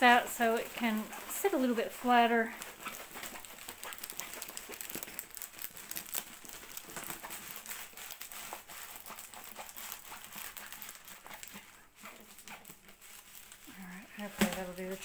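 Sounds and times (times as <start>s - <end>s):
canvas and paper crinkling: 0.0s - 15.0s.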